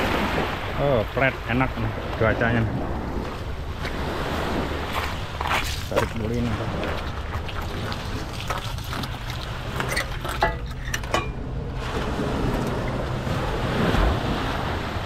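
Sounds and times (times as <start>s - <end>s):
small waves: 0.0s - 15.0s
wind: 0.0s - 15.0s.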